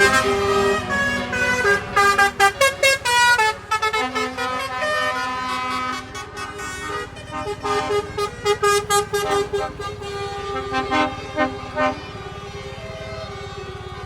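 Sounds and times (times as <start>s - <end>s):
truck horns blasting: 0.0s - 14.0s.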